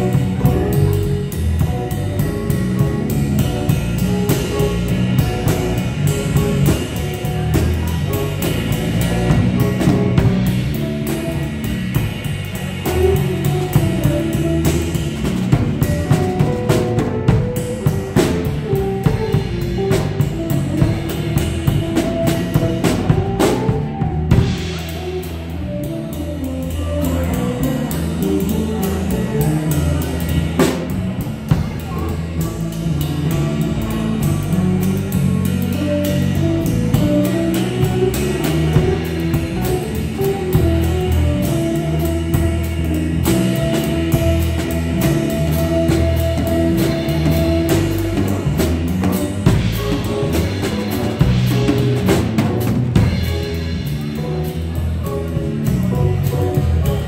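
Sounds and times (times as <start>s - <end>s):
drum kit playing jazz: 0.0s - 57.0s
electric bass notes: 0.0s - 57.0s.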